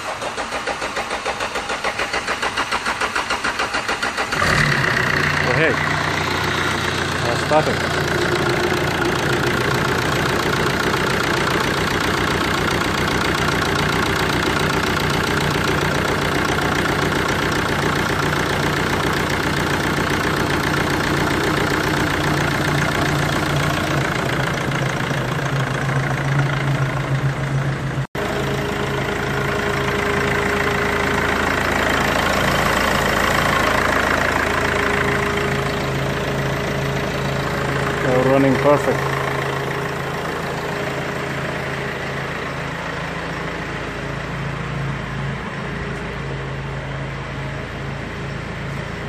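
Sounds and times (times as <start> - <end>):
diesel engine idling: 0.0 - 49.0.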